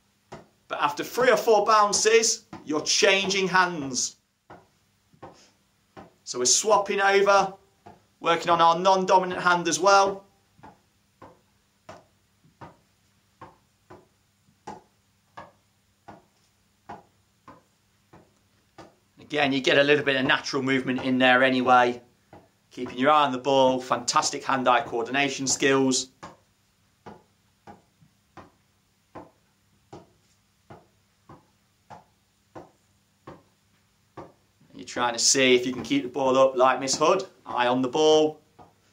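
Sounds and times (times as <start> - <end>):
tennis ball tapping on racket: 0.2 - 0.6, 1.2 - 3.5, 4.4 - 6.9, 7.8 - 8.1, 9.3 - 23.0, 23.7 - 34.5, 35.2 - 38.9.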